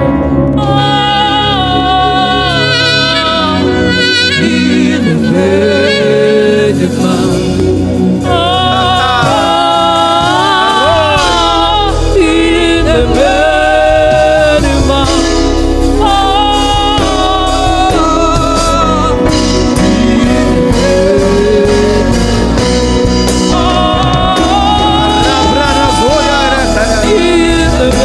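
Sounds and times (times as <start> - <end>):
gliding lead melody: 0.0 - 28.0
worship band playing: 0.0 - 28.0.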